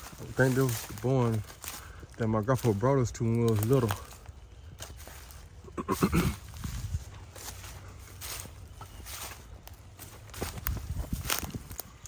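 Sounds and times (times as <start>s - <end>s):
footsteps scuffing through woods: 0.0s - 12.0s.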